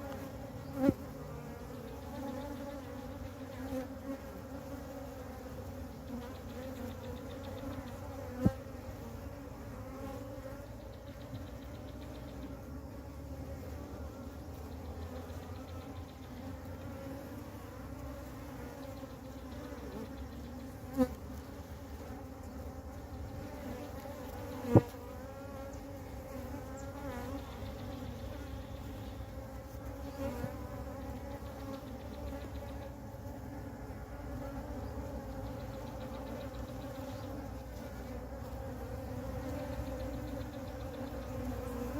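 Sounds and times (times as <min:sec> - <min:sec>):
bee swarm buzzing: 0:00.0 - 0:41.9.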